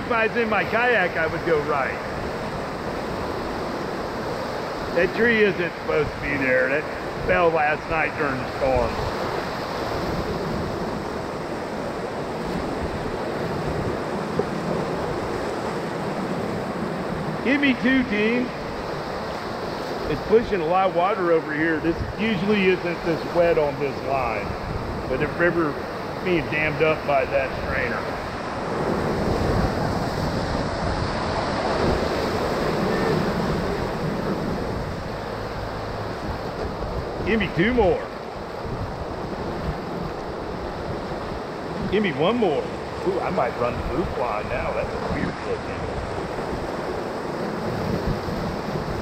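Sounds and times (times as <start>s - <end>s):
whitewater rapids rushing: 0.0s - 11.6s, 17.3s - 49.0s.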